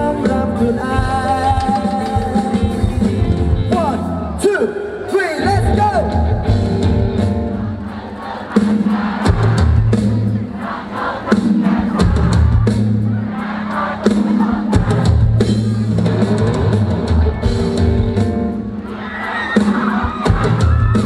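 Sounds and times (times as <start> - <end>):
drum kit with heavy bass: 0.0 - 21.0
live band music: 0.0 - 21.0
crowd voices: 1.6 - 21.0.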